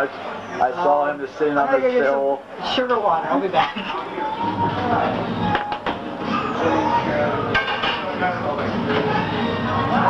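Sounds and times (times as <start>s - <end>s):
murmur of voices: 0.0s - 10.0s.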